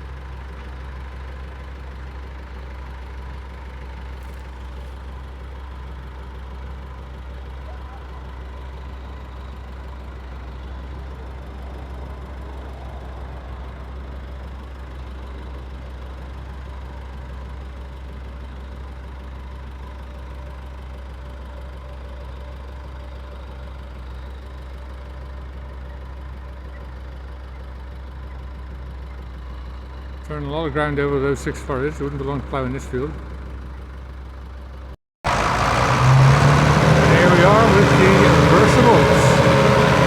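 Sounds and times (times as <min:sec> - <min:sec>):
tractor engine under load: 0:00.0 - 0:40.0.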